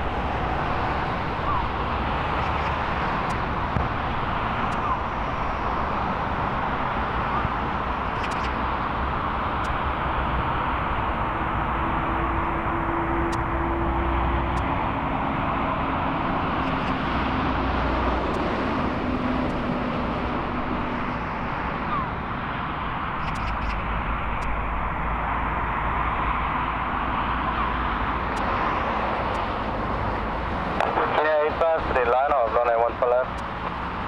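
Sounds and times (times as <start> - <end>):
jet airliner engines roaring: 0.0 - 34.0.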